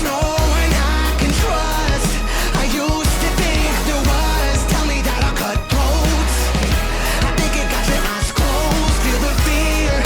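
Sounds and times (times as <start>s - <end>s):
loud rock-pop music: 0.0s - 10.0s.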